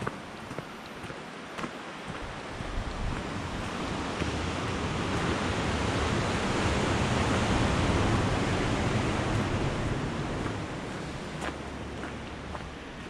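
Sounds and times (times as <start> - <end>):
sea surf: 0.0 - 13.0
wind: 0.0 - 13.0.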